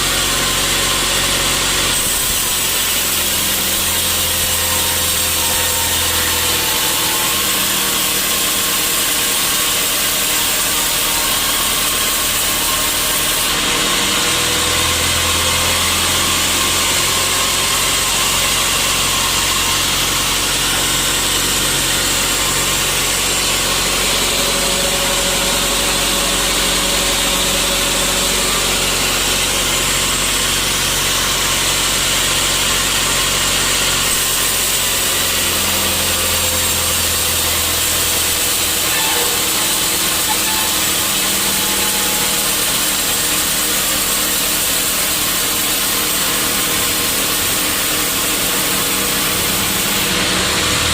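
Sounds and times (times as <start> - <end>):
sawmill saw cutting log: 0.0 - 50.9.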